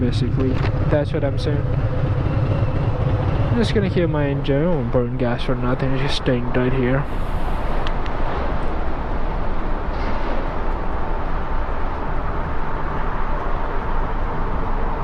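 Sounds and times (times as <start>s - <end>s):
low rumble of vehicle engines: 0.0s - 15.0s.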